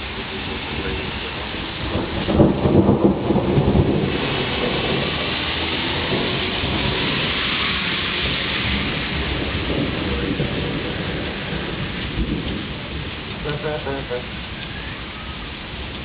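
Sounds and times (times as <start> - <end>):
heavy rainfall: 0.0 - 16.0
thunder rumbling: 0.0 - 16.0.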